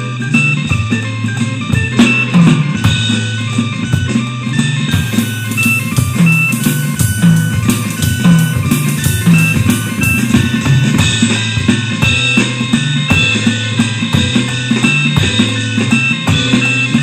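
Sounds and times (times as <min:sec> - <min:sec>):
drum kit playing: 0:00.0 - 0:17.0
electric guitar: 0:00.0 - 0:17.0
stepping bass line: 0:00.0 - 0:17.0.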